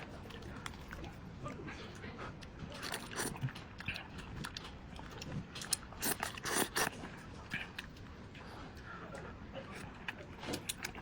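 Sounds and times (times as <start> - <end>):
wet chewing and slurping: 0.0 - 11.0.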